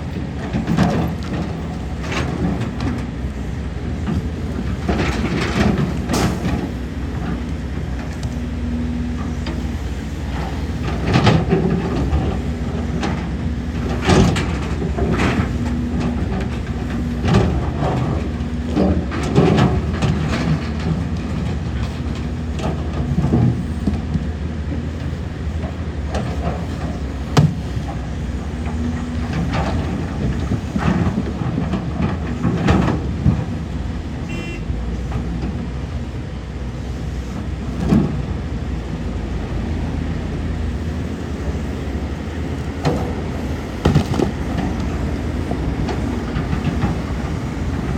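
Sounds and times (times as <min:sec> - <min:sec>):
metallic clanks of bucket and tracks: 0:00.0 - 0:36.2, 0:36.9 - 0:47.9
excavator diesel engine running: 0:00.0 - 0:47.9.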